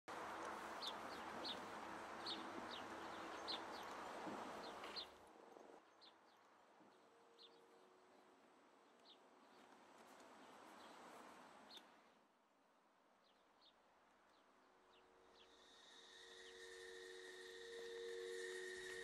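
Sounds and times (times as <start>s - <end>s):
steady outdoor hiss: 0.1s - 19.0s.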